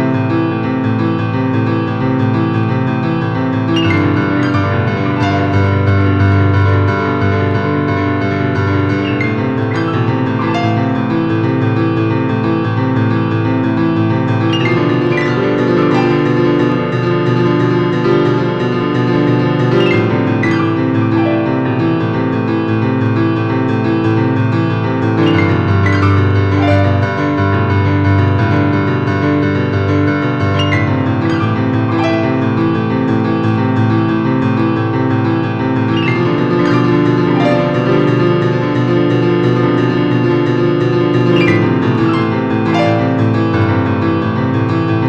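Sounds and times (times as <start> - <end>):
slow piano chords: 0.0 - 45.0.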